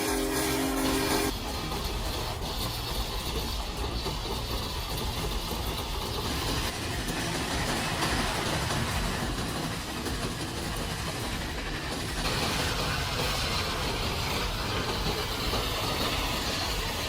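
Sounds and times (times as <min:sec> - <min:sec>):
train engine and rail rumble: 0:00.0 - 0:17.0.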